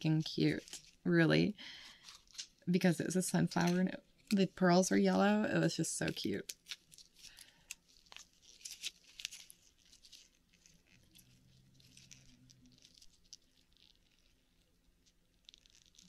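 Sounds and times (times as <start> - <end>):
faint clicks and crinkling: 0.0 - 16.0.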